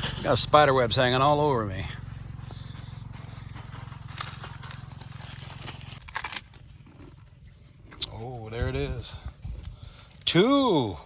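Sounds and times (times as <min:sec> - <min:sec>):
low steady hum: 0:00.0 - 0:11.0
dry brush and leaves crackling: 0:02.0 - 0:11.0.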